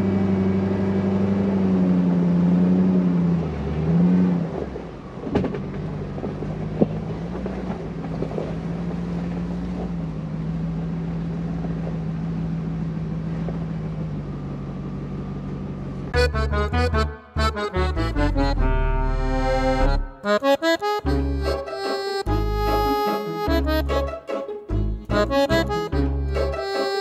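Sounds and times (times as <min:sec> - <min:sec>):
car engine running: 0:00.0 - 0:21.7.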